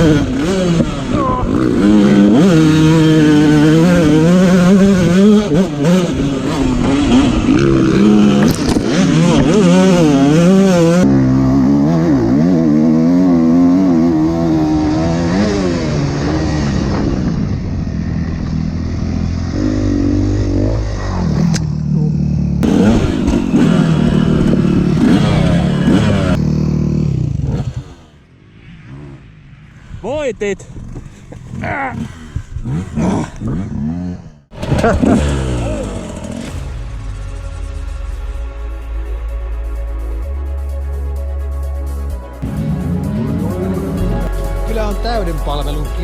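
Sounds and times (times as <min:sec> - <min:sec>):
dirt bike engine revving: 0:00.0 - 0:38.4, 0:42.2 - 0:46.0.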